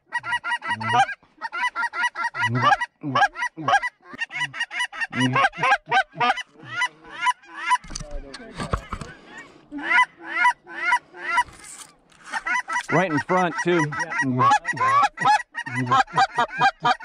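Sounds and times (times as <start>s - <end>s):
geese honking: 0.0s - 8.0s, 8.6s - 17.0s.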